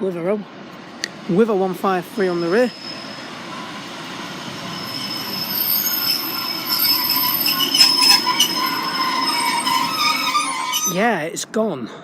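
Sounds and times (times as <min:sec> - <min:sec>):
train wheels squealing on rails: 0:00.0 - 0:11.3
train wheels clacking: 0:00.5 - 0:11.1.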